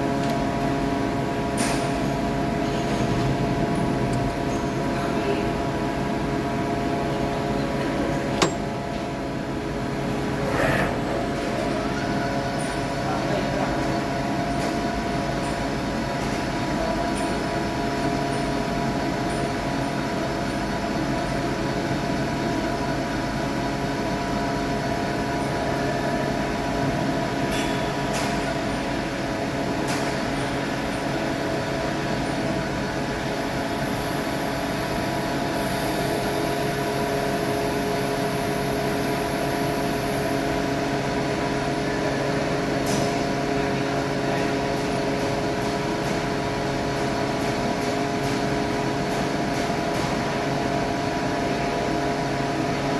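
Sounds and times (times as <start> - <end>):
workshop machinery humming: 0.0 - 52.9.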